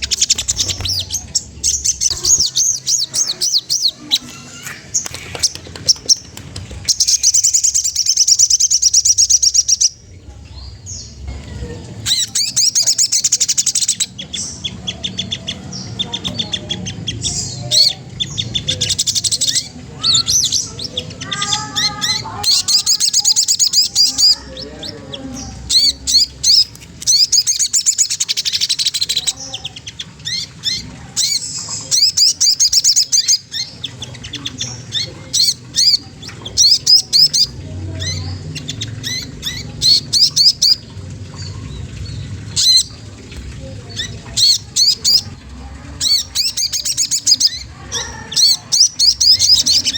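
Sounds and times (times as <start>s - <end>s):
songbird chattering trills: 0.0s - 49.9s.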